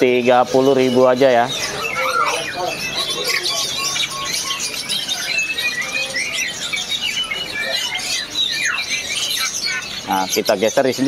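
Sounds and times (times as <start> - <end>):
caged songbirds chirping: 0.0 - 11.0.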